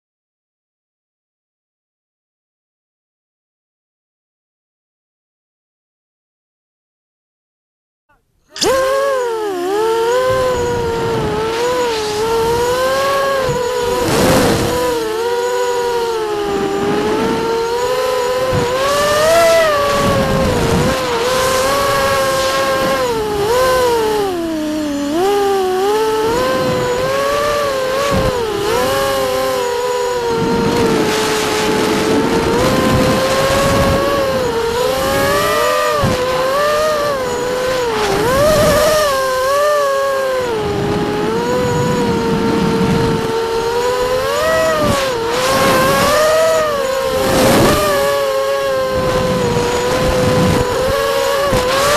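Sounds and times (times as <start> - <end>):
drone motors whining: 8.1 - 51.9.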